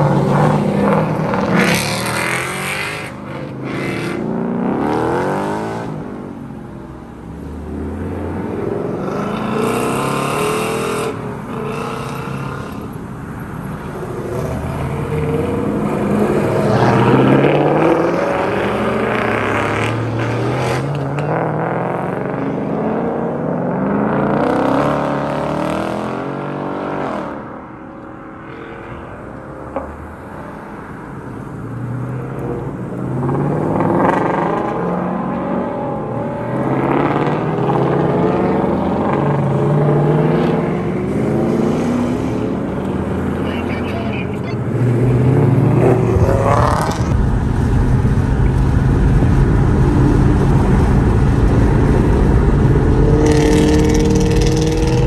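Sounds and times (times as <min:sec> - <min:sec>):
cars accelerating away: 0:00.0 - 0:06.3, 0:07.3 - 0:13.0, 0:13.6 - 0:27.5, 0:29.8 - 0:43.8, 0:44.5 - 0:55.0.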